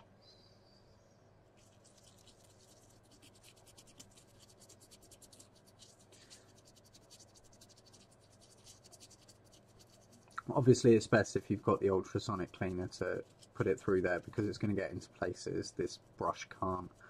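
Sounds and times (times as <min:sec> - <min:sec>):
small brush scrubbing circuit board: 0:01.6 - 0:17.0.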